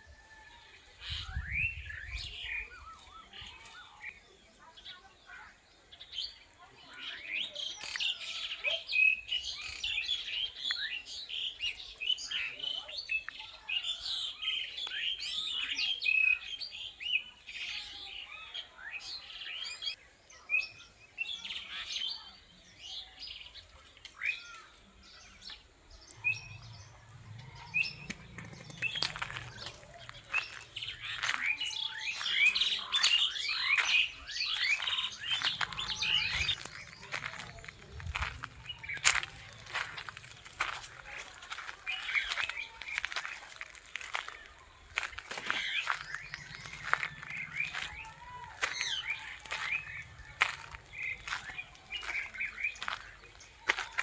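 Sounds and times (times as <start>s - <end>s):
small birds chirping: 0.9s - 54.0s.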